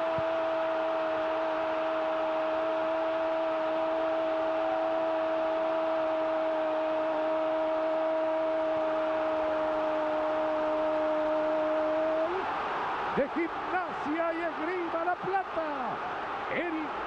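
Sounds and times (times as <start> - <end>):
stadium crowd roaring: 0.0 - 17.0.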